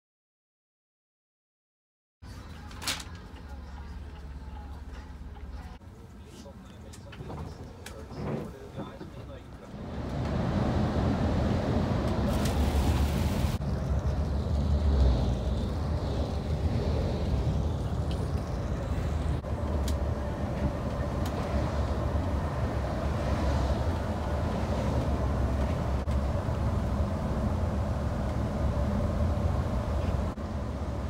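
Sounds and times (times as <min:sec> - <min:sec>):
bus engine and tyres rumbling: 0:02.2 - 0:31.0.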